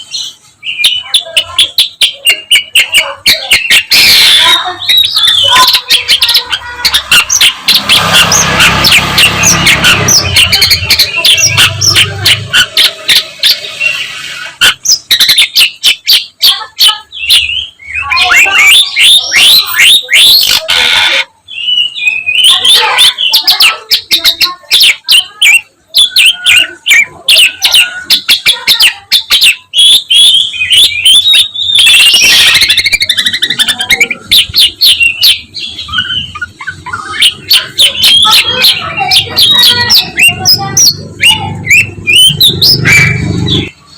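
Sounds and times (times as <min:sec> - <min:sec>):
bird singing chirps and trills: 0:00.0 - 0:43.9.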